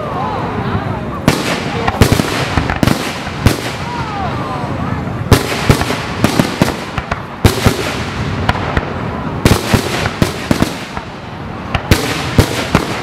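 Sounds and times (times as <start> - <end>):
fireworks bursting: 1.1 - 13.0.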